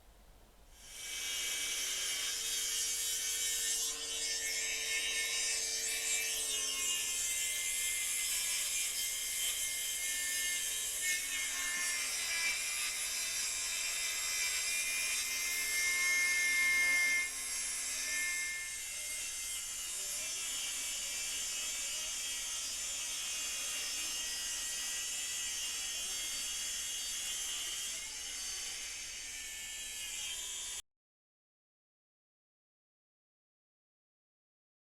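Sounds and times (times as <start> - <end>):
circular saw cutting wood: 0.8 - 30.8.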